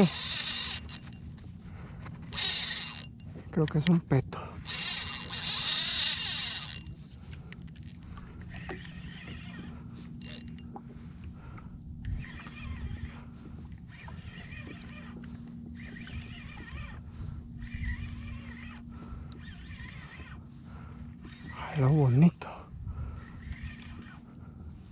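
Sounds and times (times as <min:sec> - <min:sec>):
fishing reel drag buzzing: 0:00.0 - 0:01.4, 0:02.0 - 0:03.5, 0:04.6 - 0:10.8, 0:12.0 - 0:21.8, 0:23.0 - 0:24.9.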